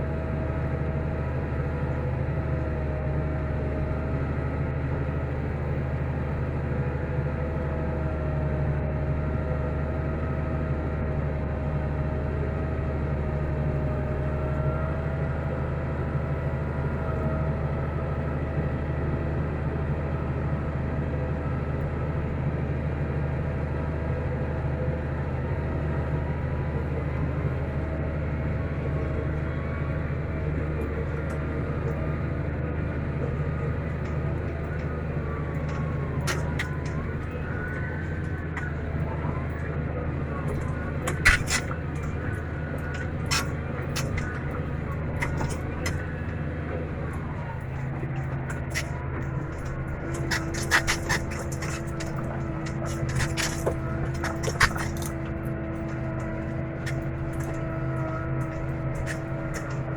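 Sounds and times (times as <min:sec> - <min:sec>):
constant whine: 0:00.0 - 0:59.9
tractor engine under load: 0:00.0 - 0:59.9.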